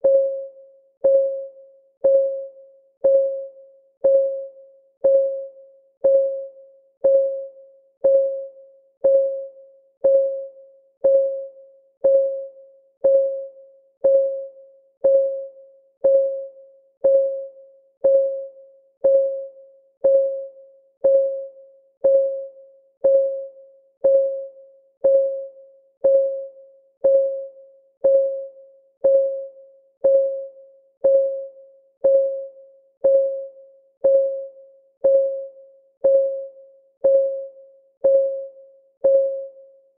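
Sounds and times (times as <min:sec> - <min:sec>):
clock tick with pitched ring: 0:00.0 - 0:39.9.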